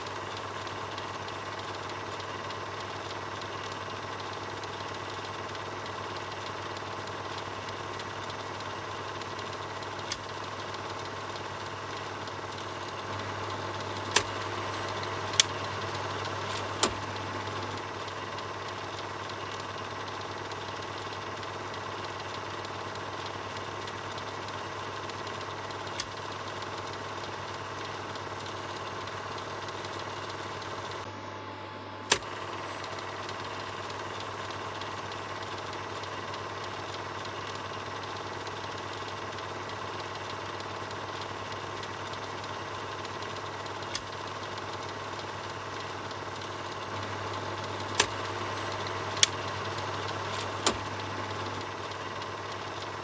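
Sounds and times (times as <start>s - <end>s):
sharp projector clicks: 0.0s - 31.1s, 32.0s - 53.0s
film projector whirring: 0.0s - 53.0s.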